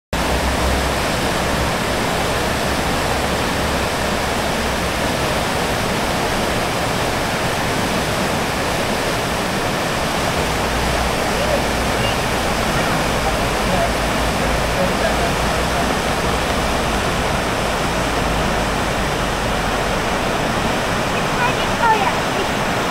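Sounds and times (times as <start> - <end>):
river water rushing: 0.2 - 22.9.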